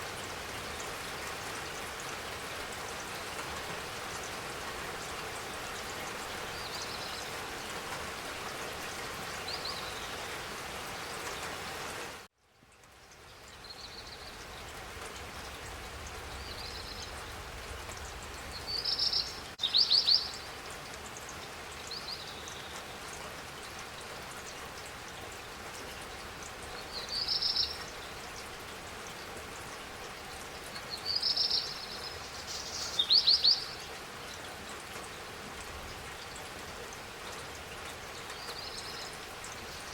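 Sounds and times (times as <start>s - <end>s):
rain hiss: 0.0s - 39.9s
songbirds chirping: 0.3s - 39.9s.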